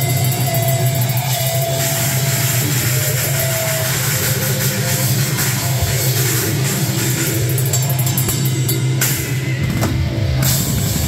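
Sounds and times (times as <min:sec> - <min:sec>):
drum hits and cymbal crashes: 0:00.0 - 0:11.0.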